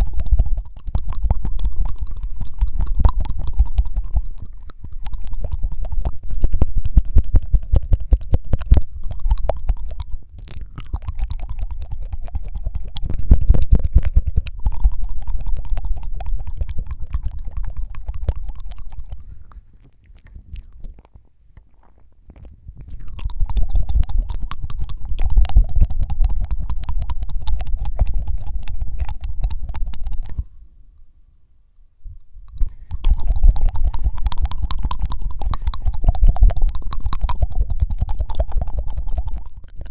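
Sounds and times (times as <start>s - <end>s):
wet tongue fluttering mouth sounds: 0.0s - 30.6s, 32.1s - 39.9s.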